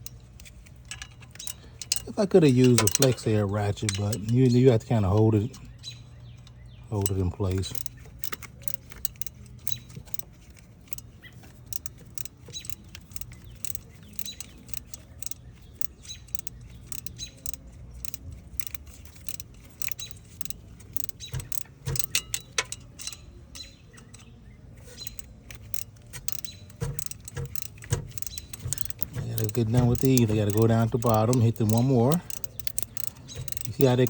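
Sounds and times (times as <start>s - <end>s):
ratchet wrench clicking: 0.0s - 34.0s.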